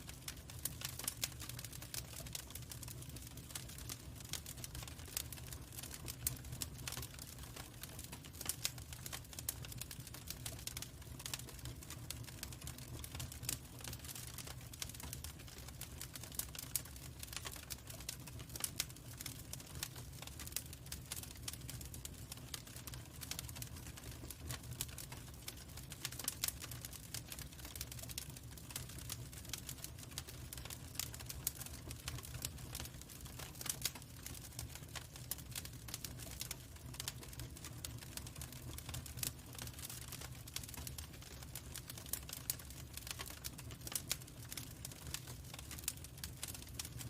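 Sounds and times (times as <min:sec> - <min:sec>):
log fire crackling: 0:00.0 - 0:47.0
sharp snaps and pops: 0:00.0 - 0:47.0.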